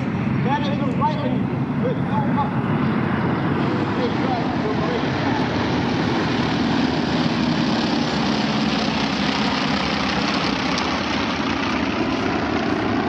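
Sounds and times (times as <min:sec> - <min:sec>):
propeller planes flying over: 0:00.0 - 0:13.0.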